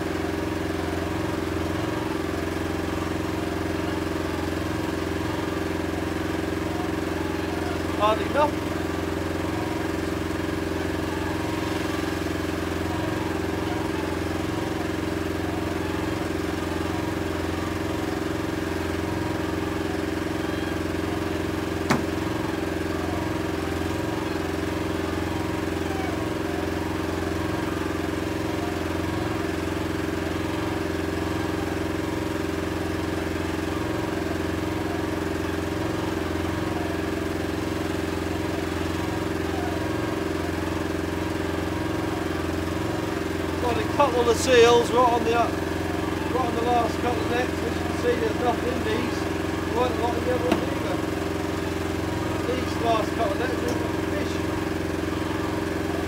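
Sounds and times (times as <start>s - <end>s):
outboard engine running: 0.0s - 56.0s.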